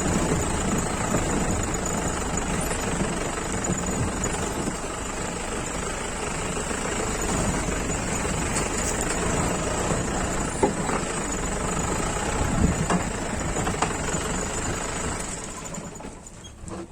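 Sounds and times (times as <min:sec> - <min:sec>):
engine running: 0:00.0 - 0:16.9.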